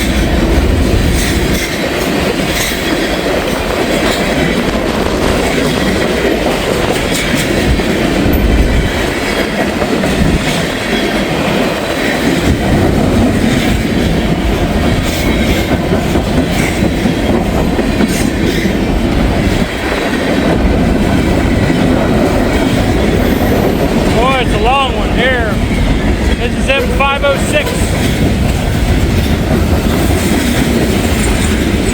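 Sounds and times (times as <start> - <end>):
train wheels rumbling on rail: 0.0 - 31.9
wheels clacking over rail joints: 0.0 - 31.9.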